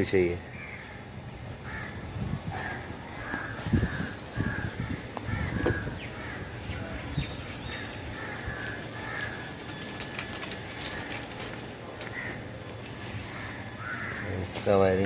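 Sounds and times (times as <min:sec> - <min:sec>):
low background noise: 0:00.0 - 0:15.0
crows cawing: 0:00.4 - 0:15.0.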